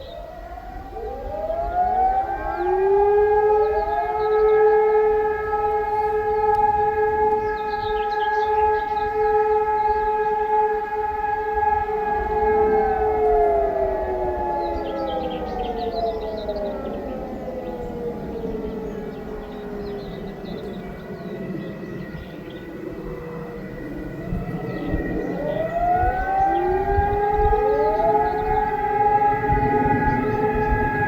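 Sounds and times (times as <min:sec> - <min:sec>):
outdoor warning sirens: 0:00.0 - 0:31.0.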